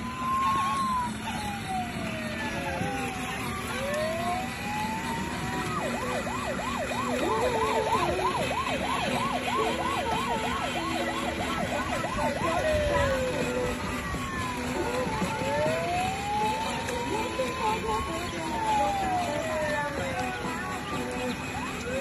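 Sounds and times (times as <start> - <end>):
toy fire truck siren: 0.0 - 22.0.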